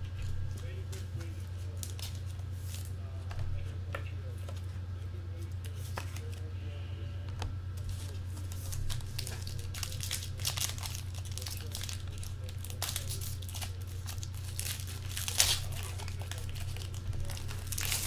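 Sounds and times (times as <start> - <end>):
low hum: 0.0 - 18.0
cards being handled: 0.1 - 6.5, 7.4 - 18.0.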